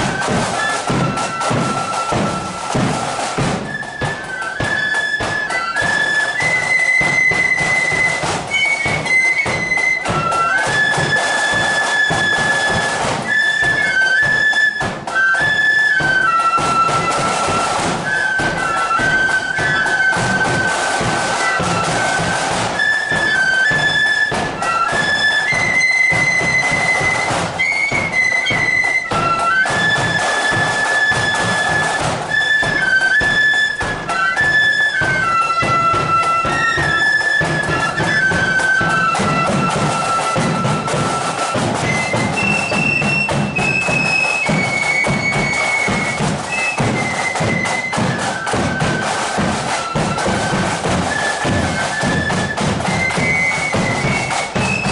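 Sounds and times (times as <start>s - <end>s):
drums pounding: 0.0s - 54.9s
flutes playing melody: 0.0s - 54.9s.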